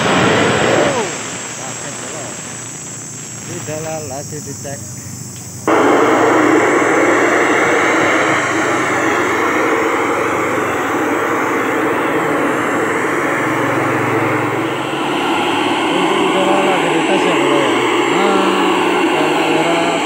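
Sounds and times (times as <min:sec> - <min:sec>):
loud steady sound system roar: 0:00.0 - 0:20.0.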